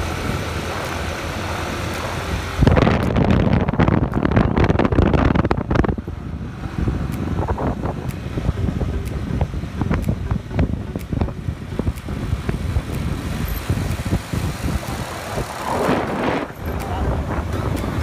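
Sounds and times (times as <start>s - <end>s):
low road rumble: 0.0s - 18.0s
wind buffeting microphone: 0.0s - 18.0s.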